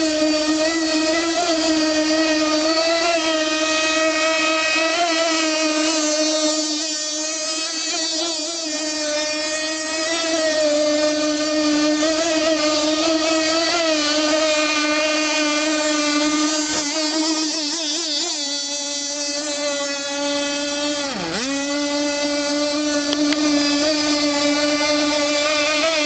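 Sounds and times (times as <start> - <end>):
model boat engine buzzing: 0.0 - 26.0.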